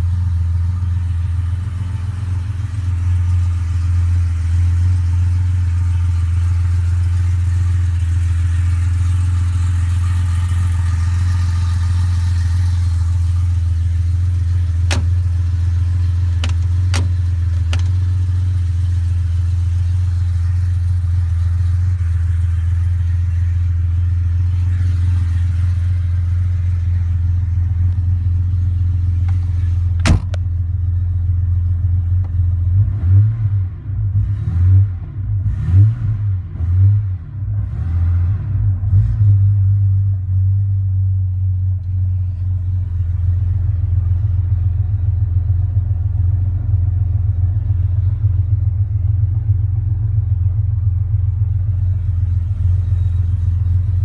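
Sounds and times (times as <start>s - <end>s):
car engine idling: 0.0s - 34.2s, 38.6s - 54.0s.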